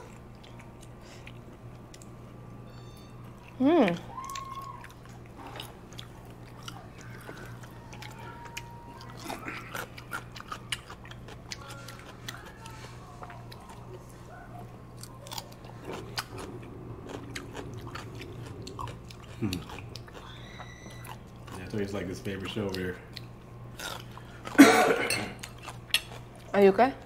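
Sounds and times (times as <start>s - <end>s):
chewing and biting food: 0.0s - 24.6s, 25.4s - 26.5s
steady low hum: 0.0s - 27.0s.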